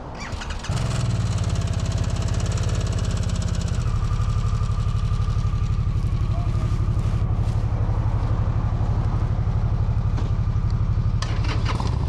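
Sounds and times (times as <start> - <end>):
motorcycle engine starting and idling: 0.0 - 12.0.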